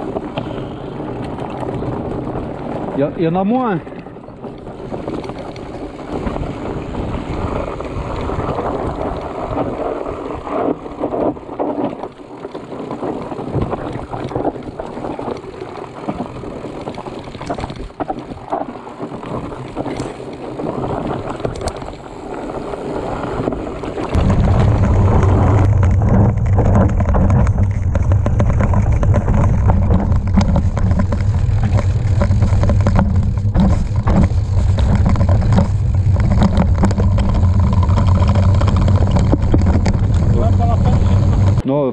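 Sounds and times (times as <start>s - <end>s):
bicycle tyres crunching on dirt: 0.0s - 41.6s
bike rattling over bumps: 0.0s - 41.6s
wind on microphone: 0.0s - 41.6s
low rumble of tyre on dirt: 0.0s - 41.7s.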